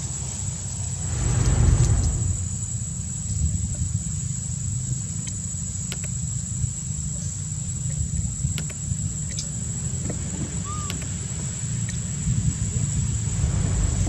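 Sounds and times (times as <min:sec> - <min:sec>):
high insect whine: 0:00.0 - 0:14.0
low outdoor rumble: 0:00.0 - 0:14.0.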